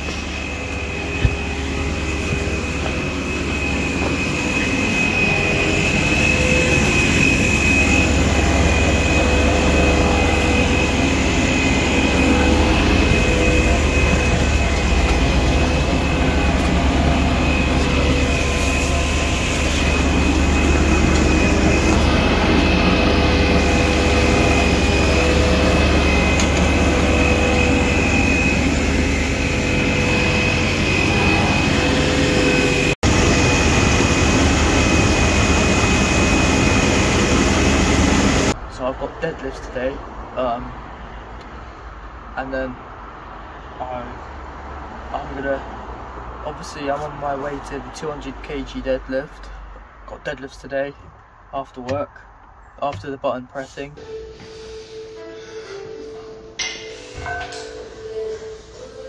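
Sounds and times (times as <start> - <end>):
machinery drone: 0.0 - 50.7
constant high whine: 0.0 - 54.7.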